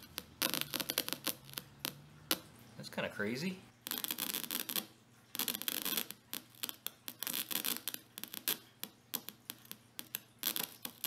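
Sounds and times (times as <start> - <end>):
speaker crackling and popping: 0.0 - 11.0.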